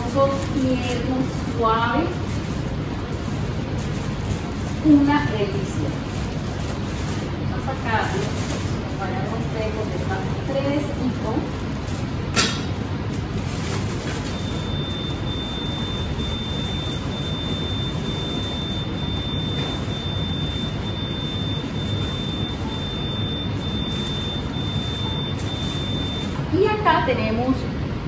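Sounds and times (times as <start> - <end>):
thin high-pitched whine: 0.0 - 26.7
ventilation hum and hiss: 0.0 - 28.0.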